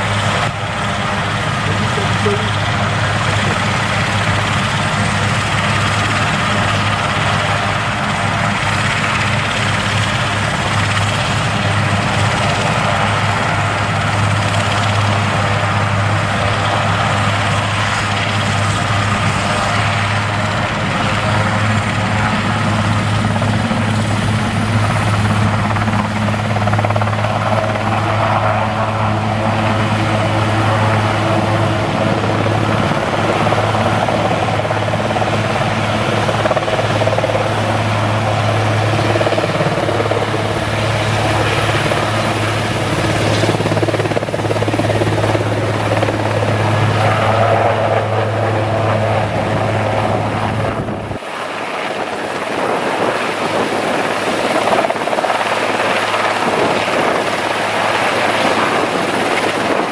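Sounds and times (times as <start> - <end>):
turbine whine: 0.0 - 14.3, 17.4 - 59.9
helicopter rotor drone: 0.0 - 59.9.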